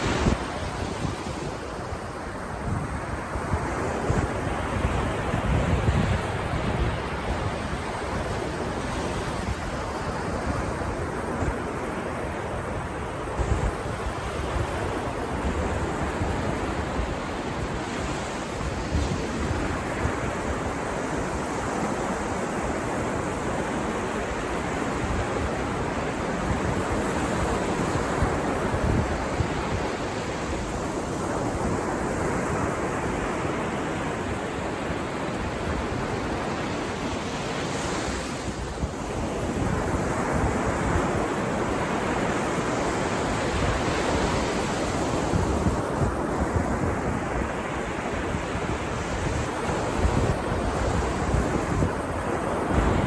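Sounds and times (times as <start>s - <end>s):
ocean waves breaking on beach: 0.0s - 53.0s
wind on microphone: 0.0s - 53.0s.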